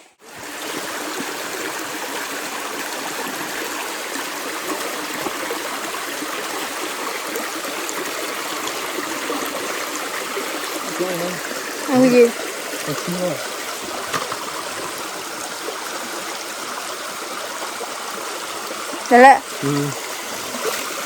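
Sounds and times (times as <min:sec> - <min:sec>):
stream water running over rocks: 0:00.2 - 0:21.0.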